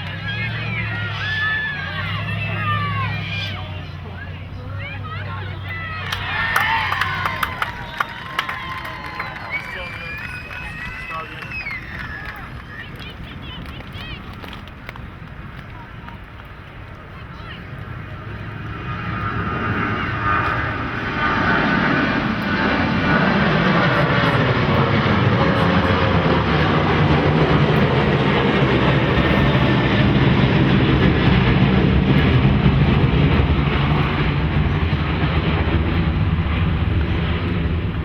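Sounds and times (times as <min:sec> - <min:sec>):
aircraft engine passing overhead: 0:00.0 - 0:38.0.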